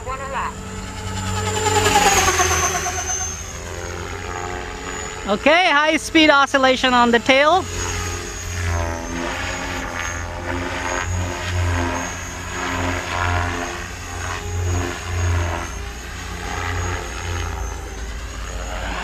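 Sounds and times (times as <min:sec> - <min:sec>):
helicopter rotor blades slapping: 0:00.0 - 0:19.0
high-pitched whine: 0:00.0 - 0:19.0.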